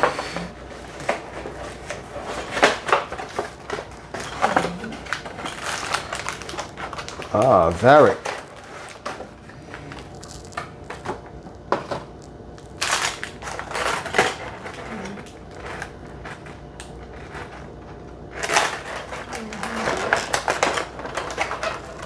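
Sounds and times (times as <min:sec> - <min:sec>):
packaging crinkling and rustling: 0:00.0 - 0:22.0.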